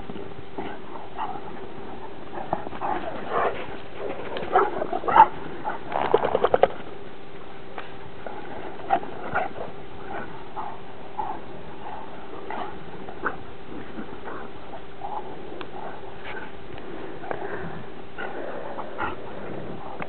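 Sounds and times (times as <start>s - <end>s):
dogs growling while play-fighting: 0.5s - 6.9s, 7.8s - 20.0s.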